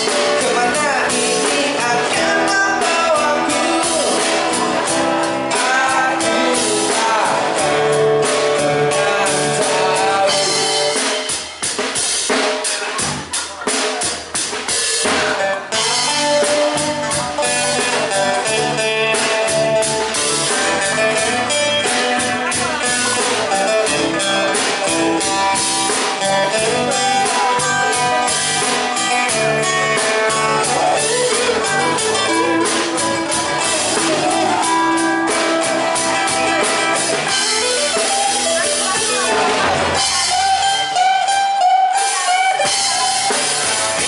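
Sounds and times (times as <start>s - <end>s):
bass guitar: 0.0s - 44.0s
drum kit played with sticks: 0.0s - 44.0s
guitar: 0.0s - 44.0s.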